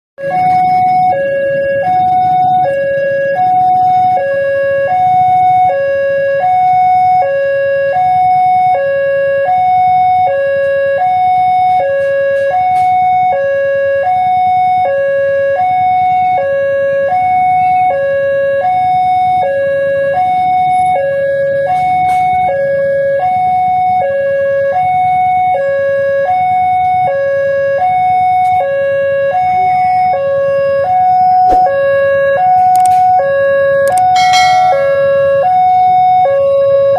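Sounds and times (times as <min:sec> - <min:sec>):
level crossing two-tone alarm: 0:00.2 - 0:36.9.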